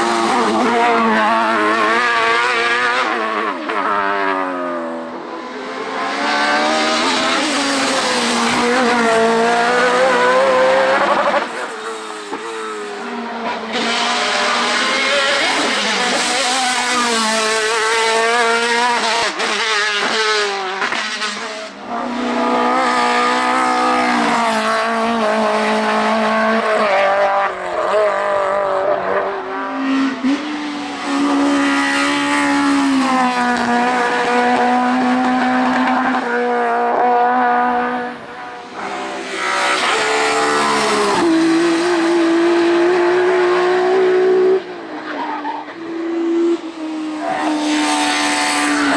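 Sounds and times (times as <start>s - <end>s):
racing car engines at high revs: 0.0s - 48.9s.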